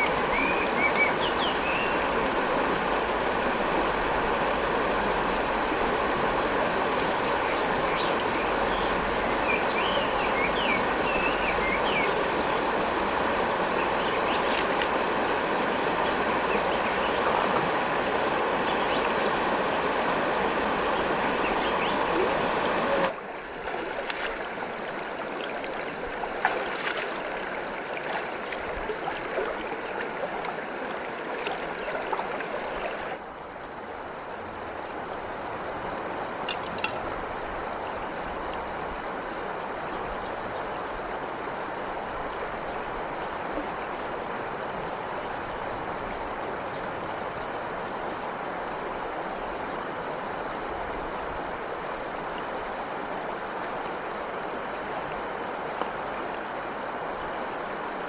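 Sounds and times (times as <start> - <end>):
stream water rushing: 0.0 - 33.6, 34.2 - 58.0.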